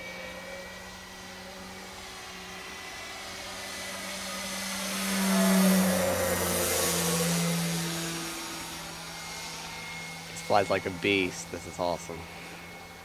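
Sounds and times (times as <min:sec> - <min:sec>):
model plane propeller drone: 0:00.0 - 0:13.0.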